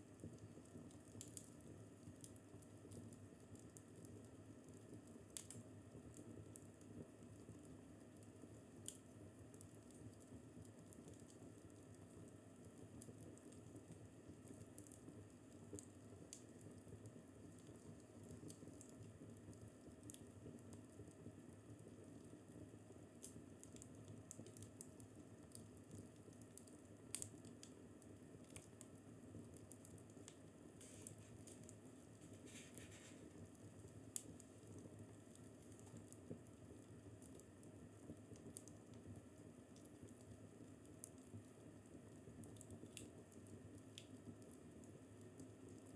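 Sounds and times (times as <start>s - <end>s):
fireplace fire crackling: 0.0s - 45.9s.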